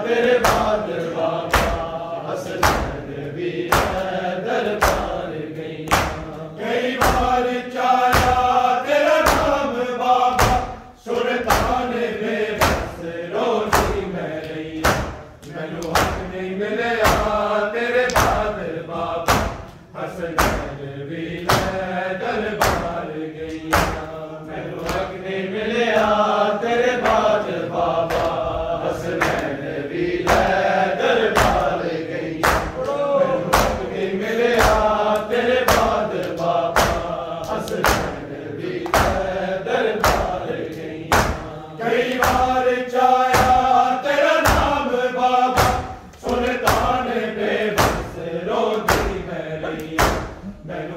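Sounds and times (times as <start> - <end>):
men chanting a lament: 0.0 - 50.9
rhythmic chest-beating slaps: 0.0 - 50.9.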